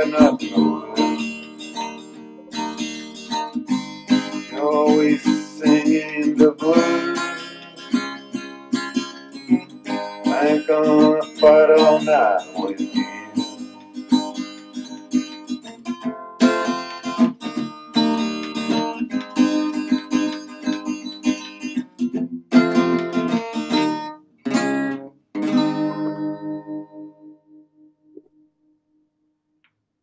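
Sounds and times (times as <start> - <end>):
acoustic guitar strummed: 0.0 - 28.7.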